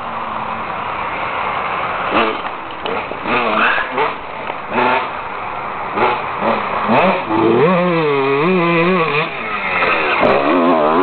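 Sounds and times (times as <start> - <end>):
two-stroke engine revving: 2.0 - 11.0.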